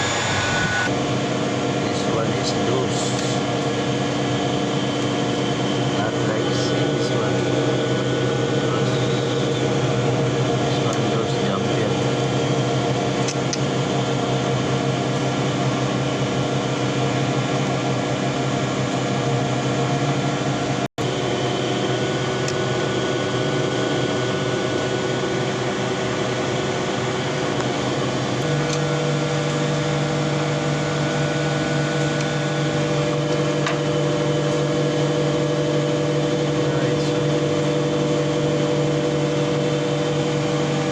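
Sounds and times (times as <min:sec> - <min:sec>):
motor humming: 0:00.0 - 0:01.0, 0:01.6 - 0:40.9.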